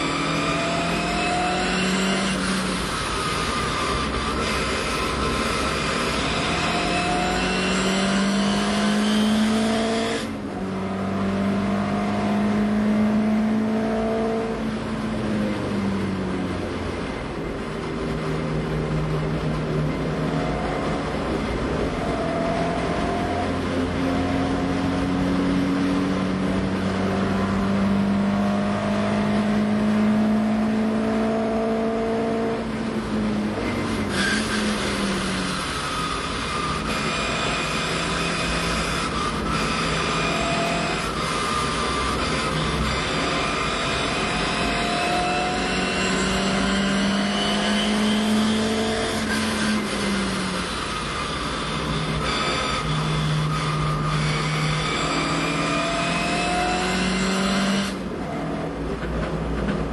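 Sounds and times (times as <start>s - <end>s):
racing engine at high revs: 0.0s - 59.9s.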